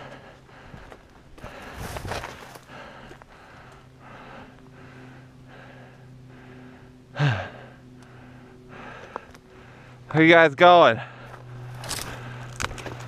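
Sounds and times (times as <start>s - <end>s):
person breathing quickly: 0.0s - 10.1s, 11.0s - 13.0s.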